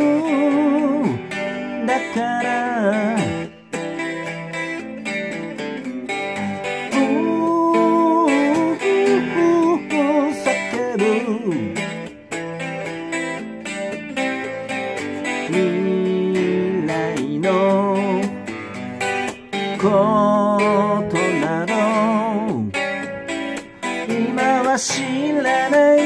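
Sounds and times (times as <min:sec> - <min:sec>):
electric guitar playing: 0:00.0 - 0:26.0.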